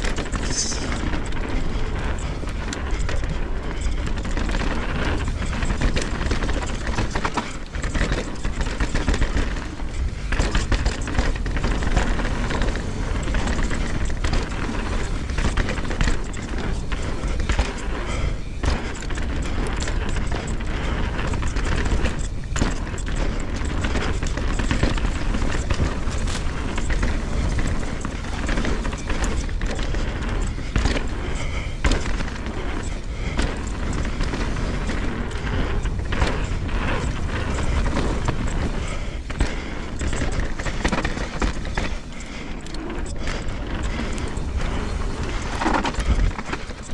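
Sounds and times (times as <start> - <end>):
bike rattling and knocking: 0.0 - 46.9
bike tyres on dirt: 0.0 - 46.9
wind rumble on microphone: 0.0 - 46.9.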